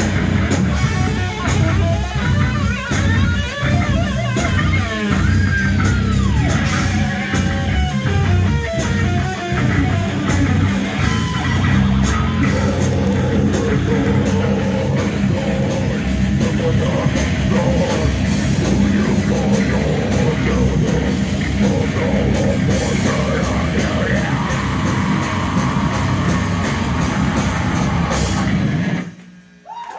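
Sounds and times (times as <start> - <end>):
heavy metal band playing: 0.0 - 29.2.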